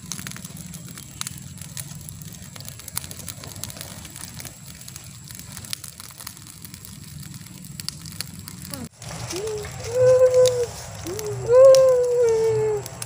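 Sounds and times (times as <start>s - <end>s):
fire crackling and popping: 0.0s - 13.0s
low steady rush of fire: 0.0s - 13.0s.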